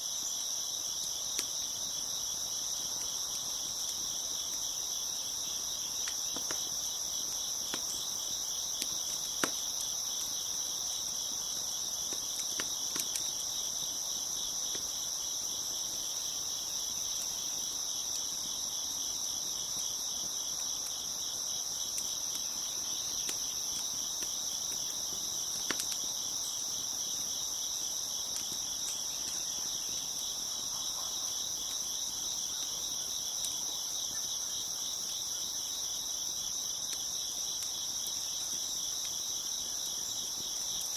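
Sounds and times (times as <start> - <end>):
crickets chirping: 0.0 - 40.9
wood fire crackling and popping: 0.8 - 40.9.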